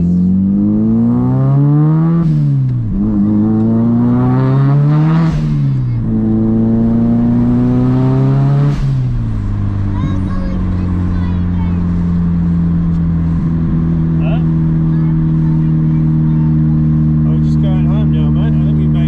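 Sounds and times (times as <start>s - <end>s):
turbocharged car engine accelerating: 0.0s - 19.0s.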